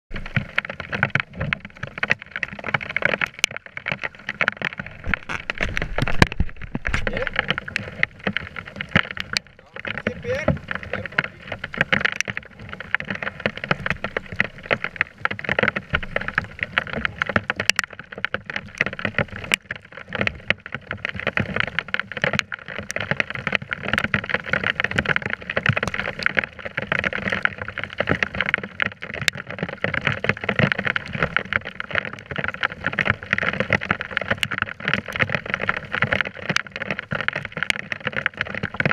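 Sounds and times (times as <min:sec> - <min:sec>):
rain ticking on kayak deck: 0:00.1 - 0:38.9.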